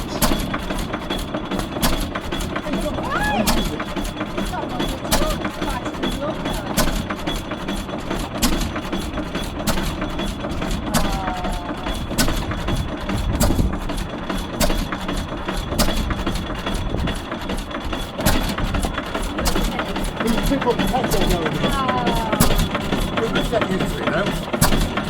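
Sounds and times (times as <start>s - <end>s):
stationary engine running: 0.0s - 25.0s.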